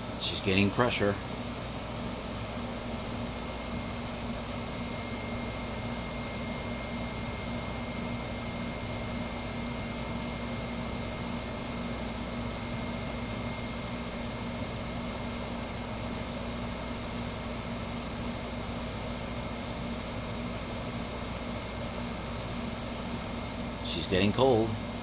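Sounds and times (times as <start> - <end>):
air conditioner fan airflow: 0.0 - 25.0
compressor hum: 0.0 - 25.0.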